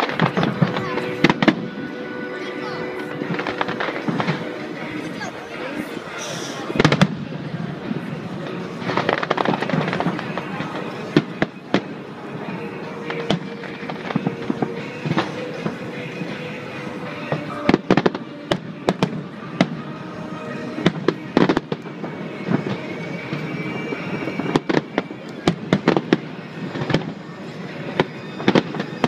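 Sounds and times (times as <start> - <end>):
ambient background noise: 0.0 - 29.0
fireworks bursting with sharp bangs: 0.0 - 29.0.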